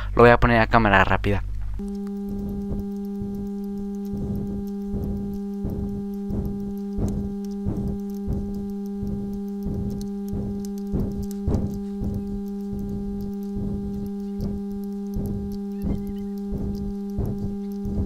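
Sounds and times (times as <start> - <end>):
pulsing beat: 1.8 - 18.0
synthesizer drone: 1.8 - 18.0.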